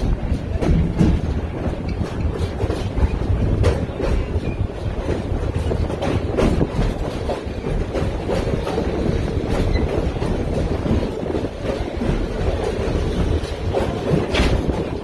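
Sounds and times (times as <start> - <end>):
train car rumbling on track: 0.0 - 15.0
wheel clicks over rail joints: 0.0 - 15.0.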